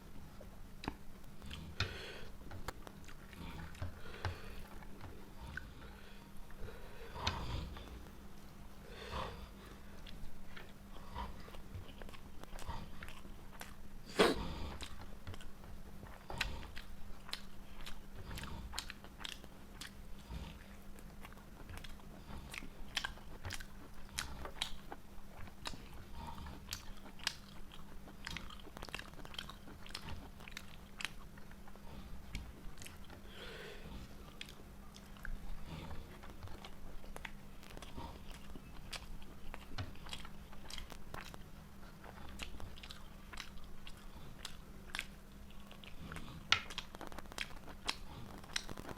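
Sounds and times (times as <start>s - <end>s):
chewing food: 0.0s - 48.9s.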